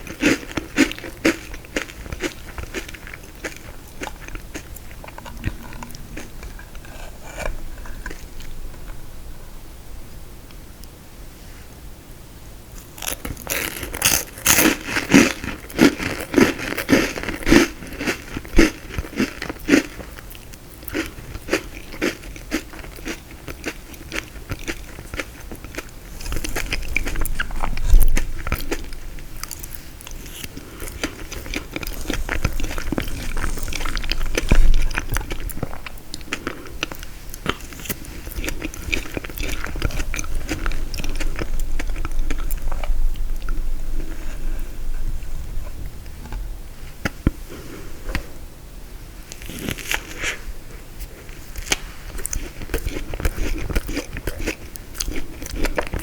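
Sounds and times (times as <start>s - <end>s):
chewing: 0.0s - 8.9s, 12.8s - 44.7s, 51.0s - 56.0s
crisp crunching of frozen dessert: 0.0s - 9.0s, 12.7s - 44.8s, 49.3s - 56.0s.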